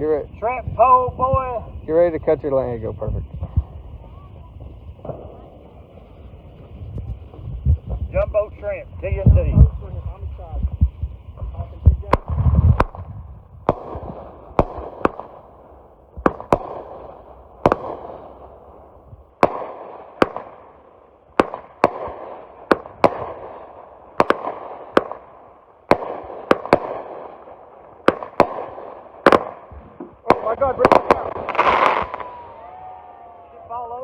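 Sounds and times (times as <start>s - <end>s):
fireworks bangs: 0.0s - 34.0s
fireworks crackling: 0.0s - 34.0s.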